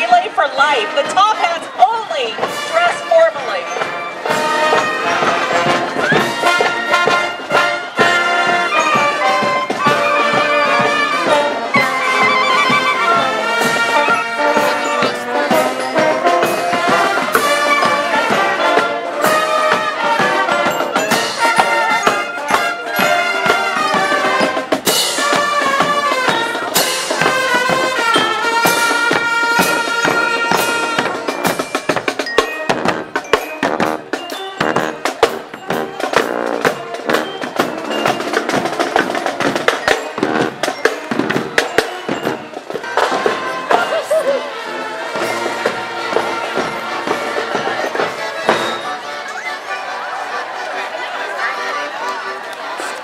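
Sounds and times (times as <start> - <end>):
marching band playing: 0.0 - 53.0.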